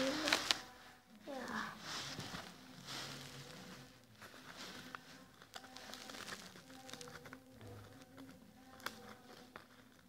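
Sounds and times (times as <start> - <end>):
paper rustling and clicking: 0.0 - 0.7, 2.1 - 10.0
faint background music: 0.0 - 10.0.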